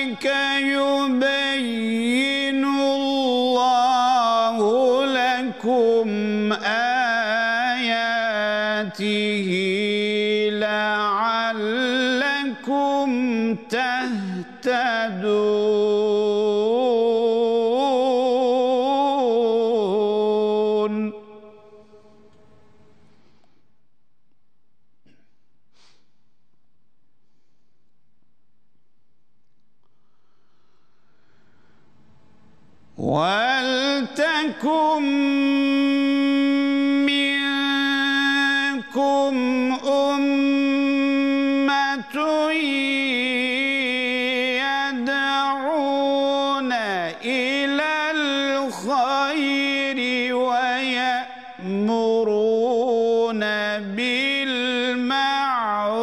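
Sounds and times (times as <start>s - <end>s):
man chanting melodically: 0.0s - 22.3s, 33.0s - 56.0s.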